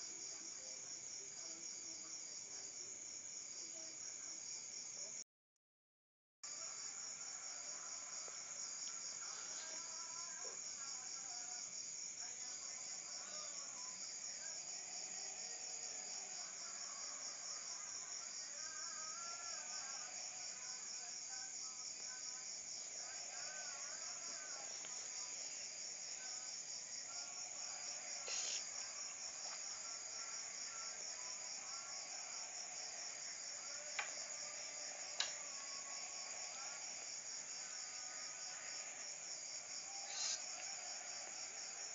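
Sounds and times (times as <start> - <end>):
crickets chirping: 0.0 - 5.2, 6.5 - 41.9
faint wavering insect calls: 6.5 - 41.9.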